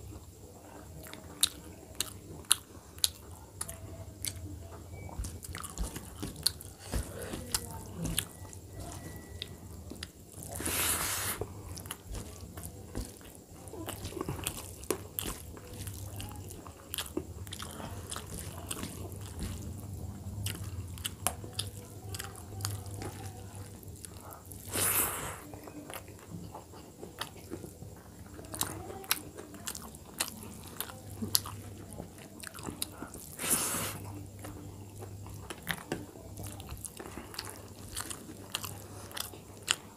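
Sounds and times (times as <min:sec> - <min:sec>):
steady low hum: 0:00.0 - 0:39.9
person chewing and lip smacking: 0:01.0 - 0:04.5, 0:05.1 - 0:10.7, 0:11.7 - 0:39.9.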